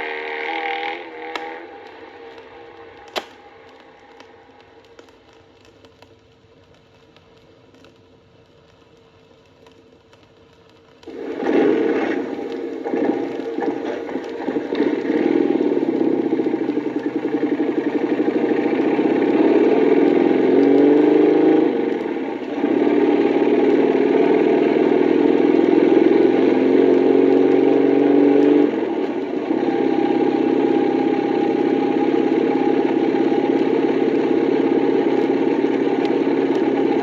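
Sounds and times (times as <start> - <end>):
motorcycle engine running: 0.0 - 4.3, 11.1 - 37.0.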